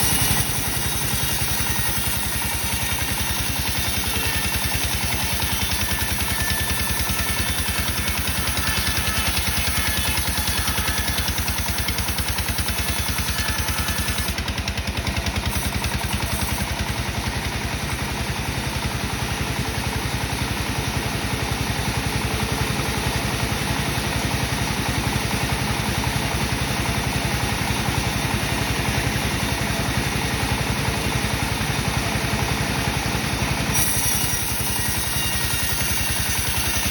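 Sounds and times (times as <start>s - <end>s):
sawmill saw cutting log: 0.0s - 36.9s.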